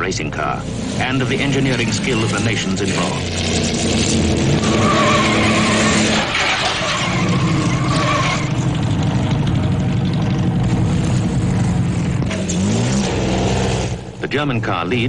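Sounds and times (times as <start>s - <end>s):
racing car engine droning: 0.0s - 15.0s.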